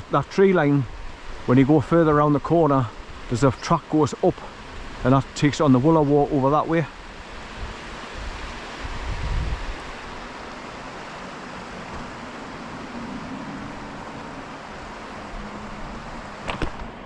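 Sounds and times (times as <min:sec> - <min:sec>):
waterfall and stream rushing: 0:00.0 - 0:17.0.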